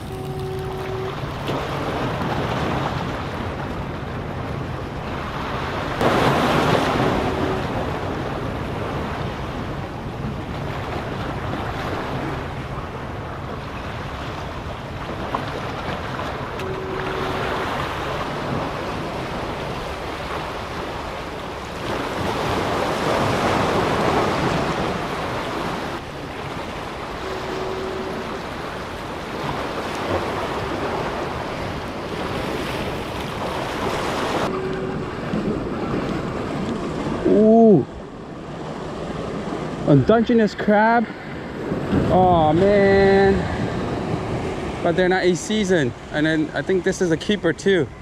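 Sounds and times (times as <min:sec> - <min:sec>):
ocean surf against rocks: 0:00.0 - 0:48.0.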